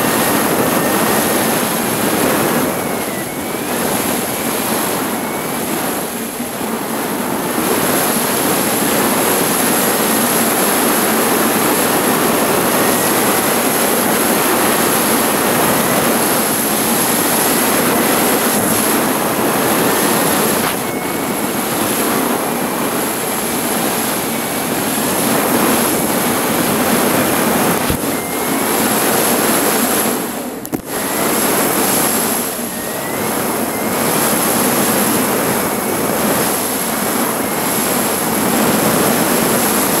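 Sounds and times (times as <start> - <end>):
faint wavering whine: 0.0 - 40.0
wind rushing over microphone: 0.0 - 40.0.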